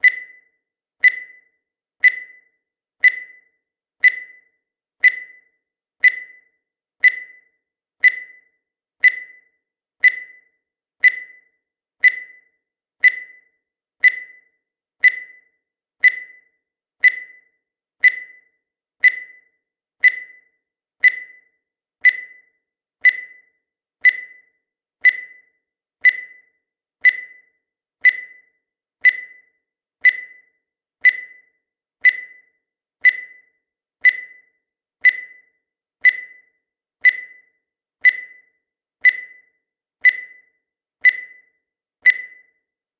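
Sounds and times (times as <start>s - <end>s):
high-pitched timer ticks: 0.0s - 42.8s.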